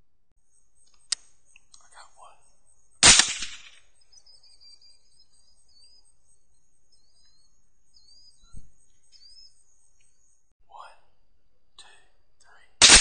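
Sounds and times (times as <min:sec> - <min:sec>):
faint chirps: 0:00.4 - 0:12.8.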